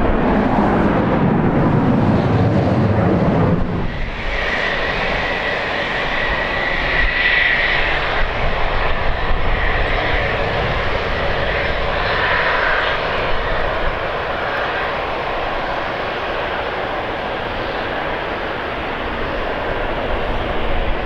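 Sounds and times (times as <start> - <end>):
airliner engines running: 0.0 - 21.0
high engine whine: 0.0 - 21.0
wind buffeting microphone: 0.0 - 21.0.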